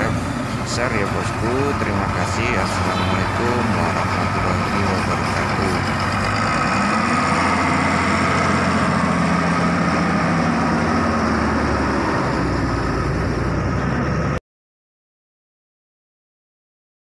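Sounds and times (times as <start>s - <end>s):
coach diesel engine pulling away: 0.0s - 14.4s.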